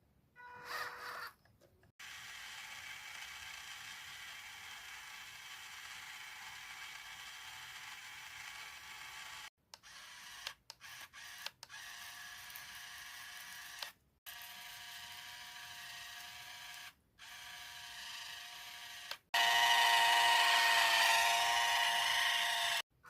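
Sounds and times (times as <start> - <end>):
small electric motor whining: 2.0 - 22.8.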